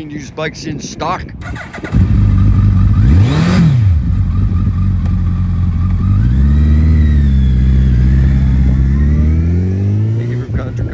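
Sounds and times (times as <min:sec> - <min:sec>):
motorcycle engine idling and revving: 0:01.4 - 0:10.9.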